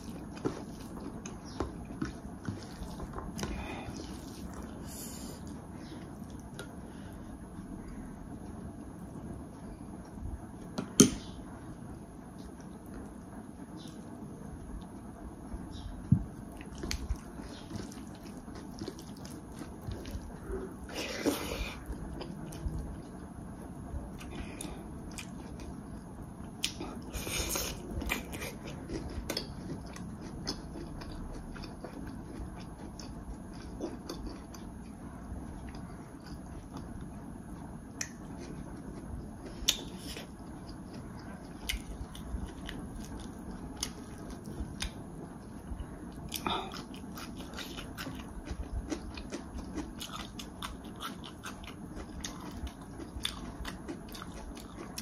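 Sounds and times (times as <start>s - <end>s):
person chewing and eating: 0.0s - 10.2s, 12.3s - 55.0s.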